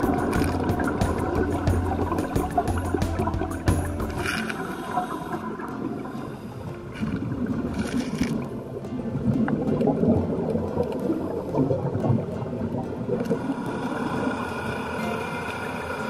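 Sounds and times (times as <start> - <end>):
underwater bubbling: 0.0 - 16.0.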